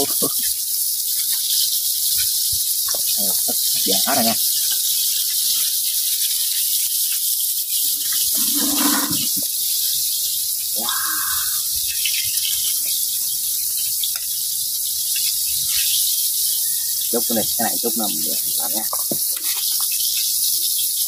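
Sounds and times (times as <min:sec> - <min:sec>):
hot oil sizzling: 0:00.0 - 0:21.0.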